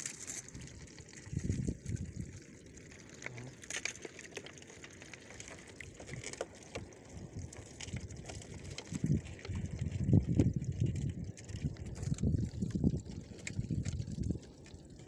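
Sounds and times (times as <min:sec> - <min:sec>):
water lapping around boat: 0:00.0 - 0:15.0.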